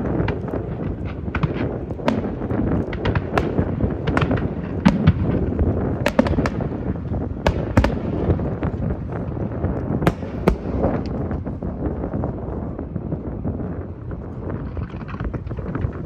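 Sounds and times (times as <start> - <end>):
fireworks bangs and crackling: 0.0 - 16.0
low rumble: 0.0 - 16.0.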